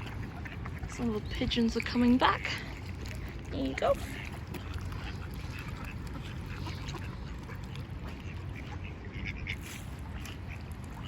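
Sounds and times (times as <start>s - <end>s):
ducks quacking: 0.0s - 2.9s, 3.6s - 11.0s.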